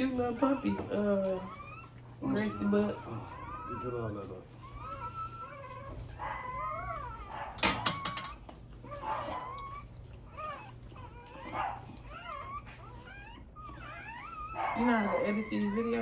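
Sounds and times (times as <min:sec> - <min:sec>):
puppies whining: 0:00.0 - 0:16.0.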